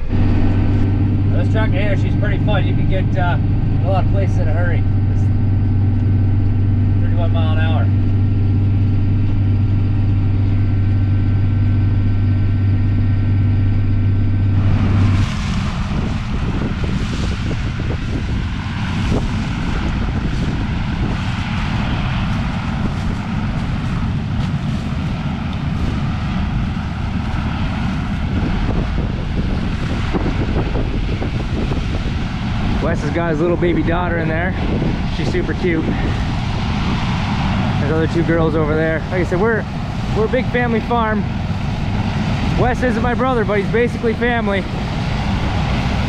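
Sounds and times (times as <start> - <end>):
rough rumble with hiss: 0.0 - 46.0
tractor diesel engine droning: 0.0 - 46.0.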